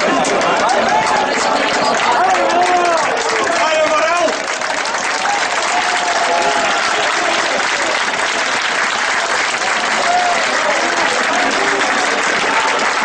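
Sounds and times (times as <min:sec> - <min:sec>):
crowd cheering: 0:00.0 - 0:13.0.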